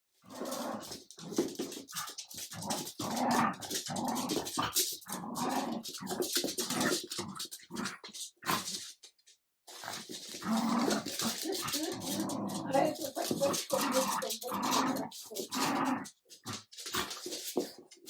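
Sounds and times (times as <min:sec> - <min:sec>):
dogs growling: 0:00.2 - 0:08.8, 0:09.7 - 0:17.7.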